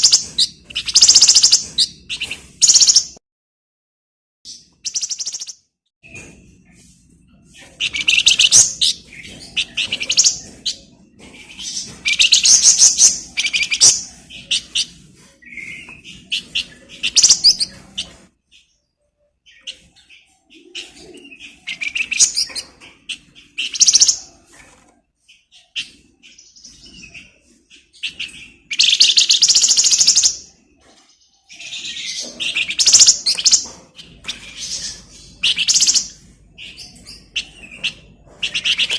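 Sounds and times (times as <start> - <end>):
songbird trilling and chirping: 0.0 - 3.2, 4.5 - 5.6, 7.7 - 24.4, 25.3 - 38.9.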